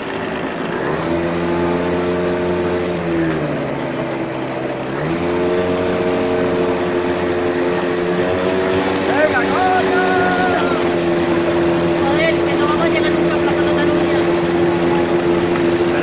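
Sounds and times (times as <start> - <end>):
three-wheeler engine: 0.0 - 16.0.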